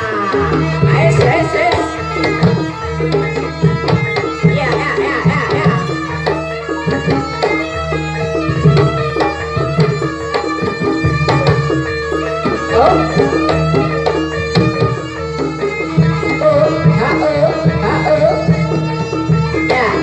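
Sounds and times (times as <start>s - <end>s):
hand drums beating quickly: 0.0s - 20.0s.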